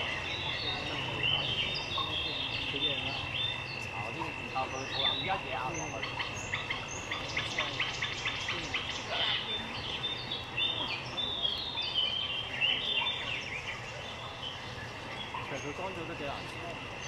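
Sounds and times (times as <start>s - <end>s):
faint crowd voices: 0.0s - 17.0s
small birds chirping: 0.0s - 17.0s.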